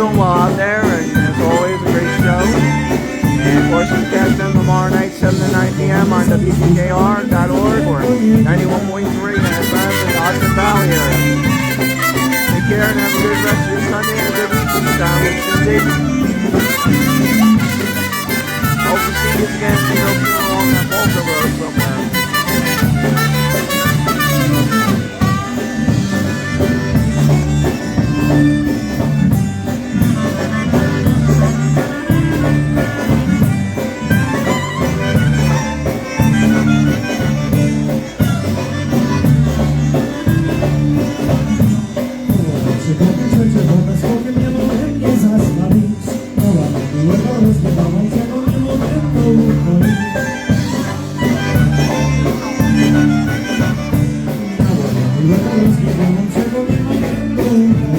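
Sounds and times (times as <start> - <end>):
polka band playing: 0.0 - 57.9.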